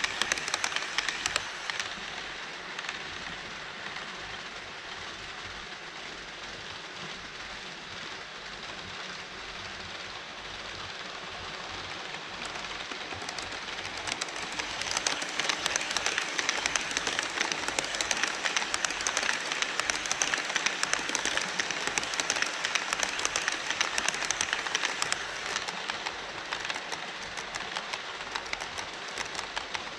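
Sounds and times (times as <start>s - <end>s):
model train wheels clicking on track: 0.0s - 29.9s.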